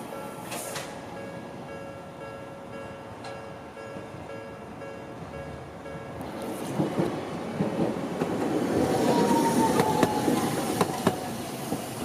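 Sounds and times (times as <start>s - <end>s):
tram rumbling past: 0.0s - 12.0s.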